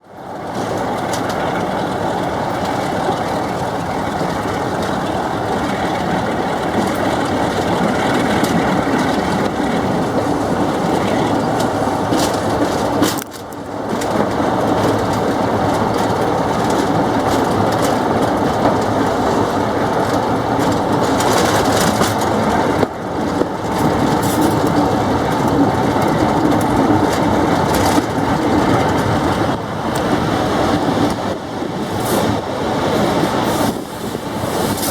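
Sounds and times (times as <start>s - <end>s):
train wheels rumbling on rail: 0.0s - 34.9s
brakes squealing and grinding: 0.4s - 34.9s.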